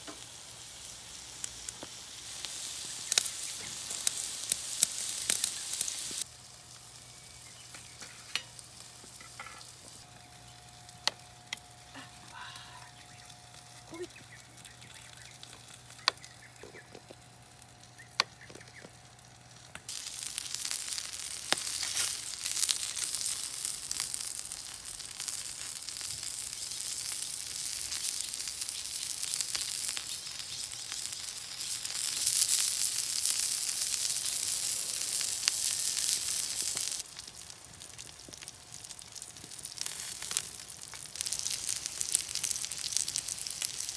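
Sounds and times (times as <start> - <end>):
fire crackles: 0.0 - 43.9
food sizzling over fire: 0.0 - 43.9.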